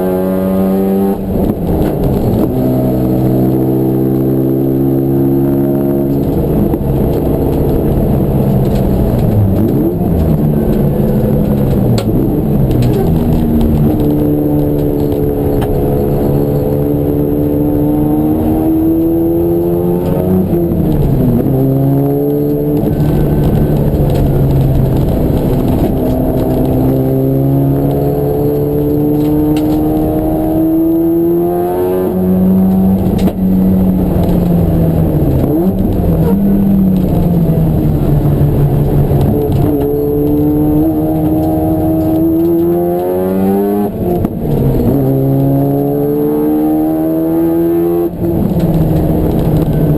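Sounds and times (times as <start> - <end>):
racing car engine accelerating: 0.0 - 49.9.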